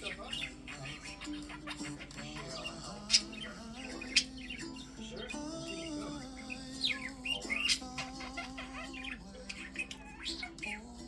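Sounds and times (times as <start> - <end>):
background music with held notes: 0.0 - 11.0
budgerigar chirping: 0.0 - 11.0.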